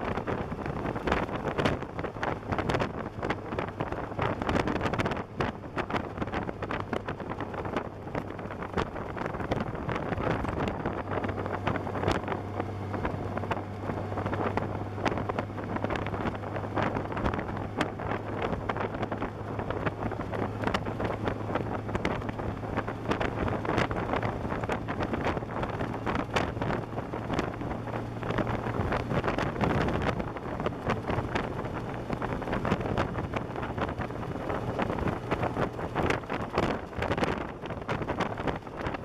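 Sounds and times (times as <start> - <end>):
motorcycle engine drone: 0.0 - 39.0
wind buffeting microphone: 0.0 - 39.0.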